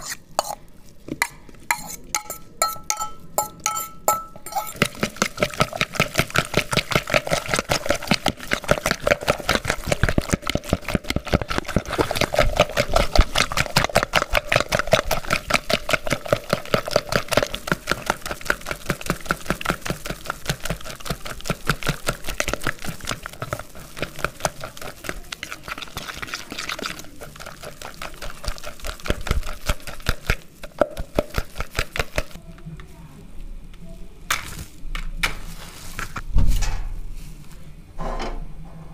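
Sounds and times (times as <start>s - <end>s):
fork beating eggs in plastic bowl: 0.0s - 33.0s.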